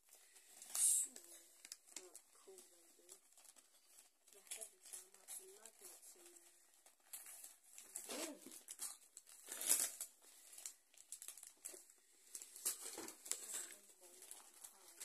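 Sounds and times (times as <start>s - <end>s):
wrapping paper crinkling and tearing: 0.0s - 15.0s.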